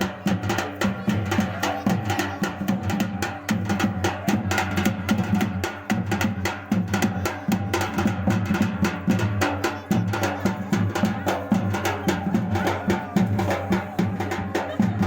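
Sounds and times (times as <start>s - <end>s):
fast drumming music: 0.0s - 15.0s.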